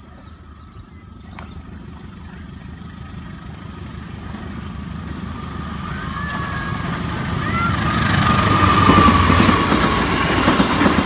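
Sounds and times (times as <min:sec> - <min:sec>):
locomotive engine rumble: 0:00.0 - 0:11.0
rail rumble: 0:00.0 - 0:11.0.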